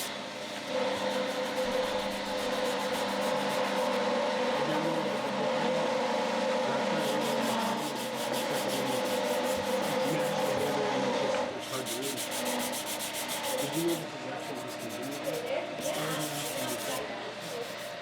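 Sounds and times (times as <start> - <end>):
lathe running hum: 0.0 - 18.0
sandpaper rubbing on wood: 1.0 - 5.4, 6.3 - 10.8, 11.6 - 18.0.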